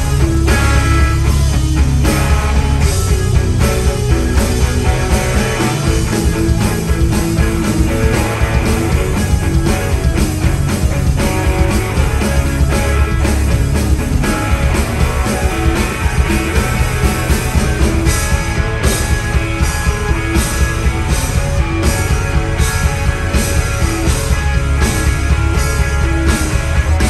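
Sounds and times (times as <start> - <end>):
live rock band playing: 0.0 - 27.0
steady drum beat: 0.0 - 27.0.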